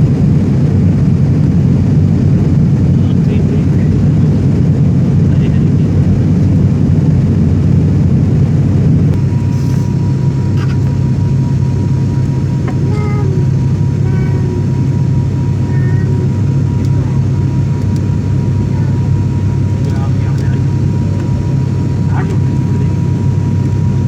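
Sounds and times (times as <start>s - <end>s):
jet airliner rumble: 0.0s - 24.0s.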